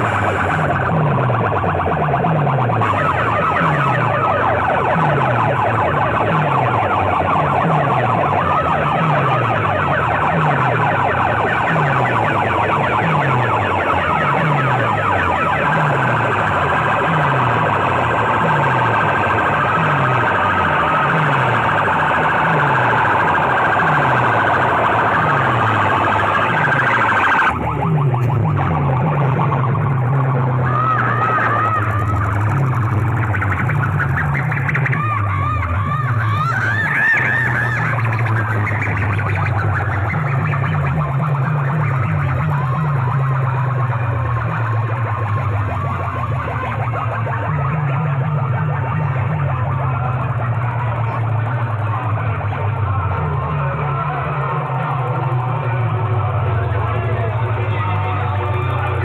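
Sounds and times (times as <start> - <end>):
siren whooping and wailing: 0.0 - 59.0
steady low drone: 0.0 - 59.0.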